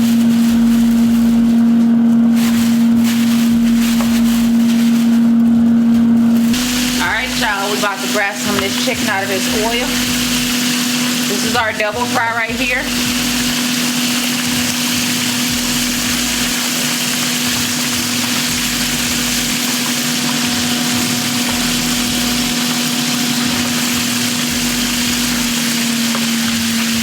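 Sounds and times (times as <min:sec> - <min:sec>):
chicken sizzling in hot oil: 0:00.0 - 0:27.0
constant low hum: 0:00.0 - 0:27.0.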